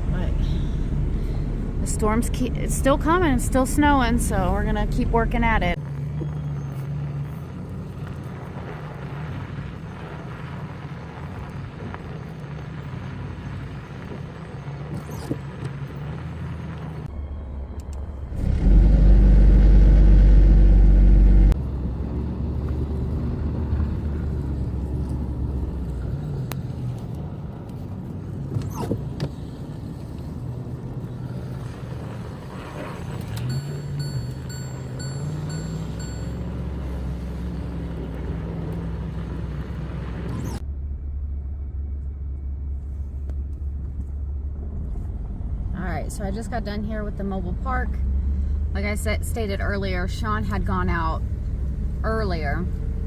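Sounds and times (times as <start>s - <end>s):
deep rumble: 0.0s - 14.8s, 15.8s - 53.0s
truck engine running: 0.0s - 53.0s.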